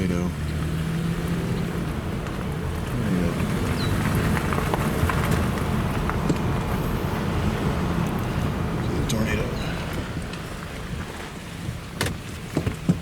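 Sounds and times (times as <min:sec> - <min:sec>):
vehicle rumble: 0:00.0 - 0:13.0
wind noise: 0:00.6 - 0:13.0.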